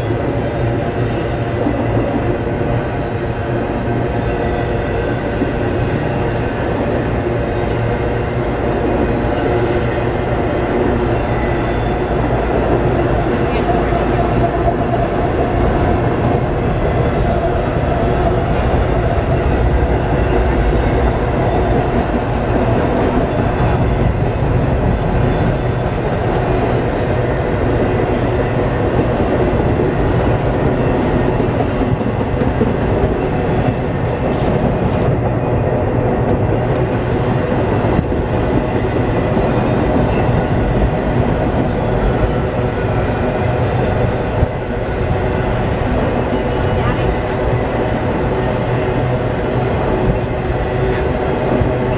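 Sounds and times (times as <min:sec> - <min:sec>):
train wheels on rails: 0:00.0 - 0:51.9.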